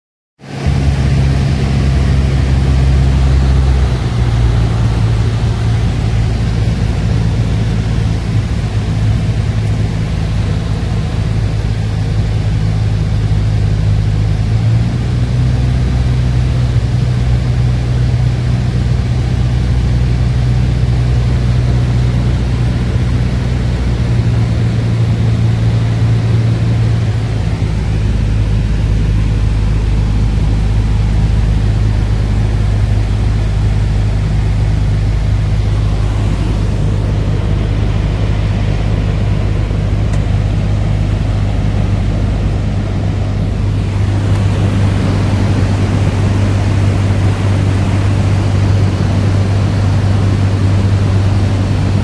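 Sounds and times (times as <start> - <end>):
airplane engine and propeller droning: 0.4 - 52.0.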